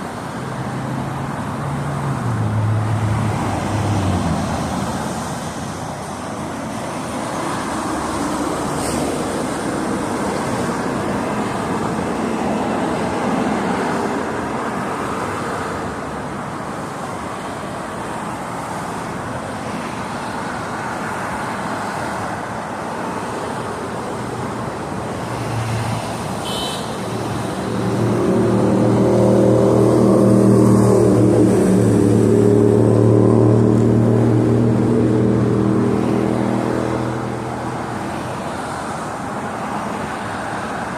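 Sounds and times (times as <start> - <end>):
freeway traffic: 0.0 - 40.9.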